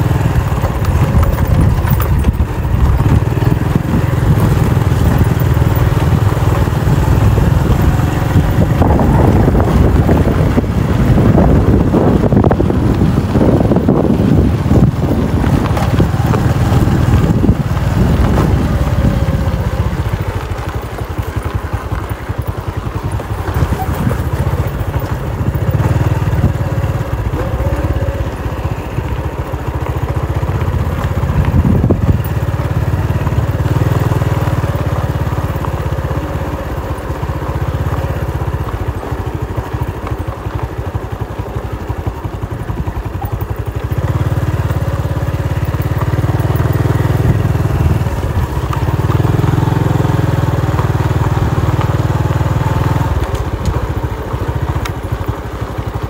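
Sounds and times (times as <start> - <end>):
motorbike engine rumbling: 0.0 - 56.0.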